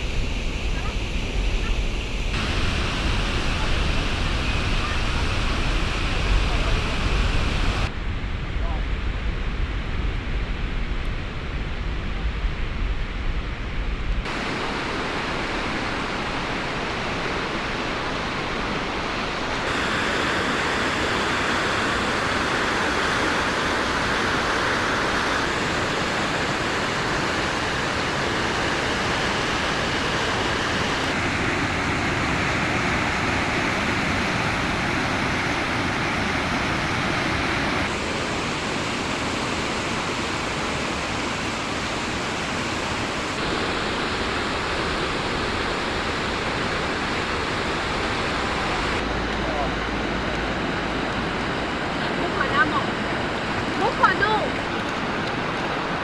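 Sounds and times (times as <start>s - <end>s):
waterfall rushing: 0.0s - 7.9s, 14.3s - 56.0s.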